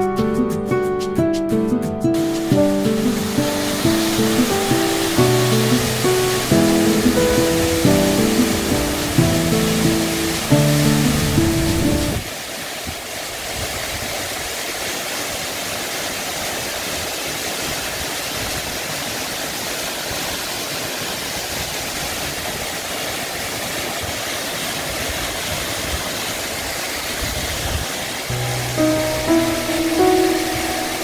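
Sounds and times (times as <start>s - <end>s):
waterfall rushing into pool: 0.0s - 31.0s.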